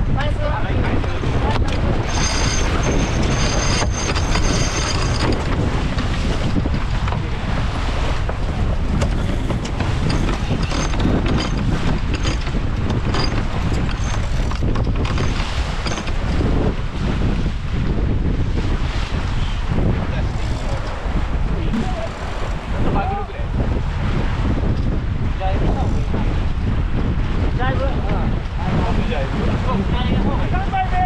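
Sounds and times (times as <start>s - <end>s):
water slapping along hull: 0.0s - 31.0s
wind buffeting microphone: 0.0s - 31.0s.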